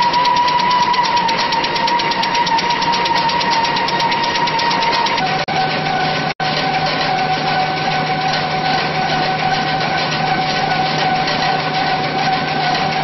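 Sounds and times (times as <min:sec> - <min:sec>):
constant mechanical whine: 0:00.0 - 0:13.0
paper converting machine running: 0:00.0 - 0:13.0.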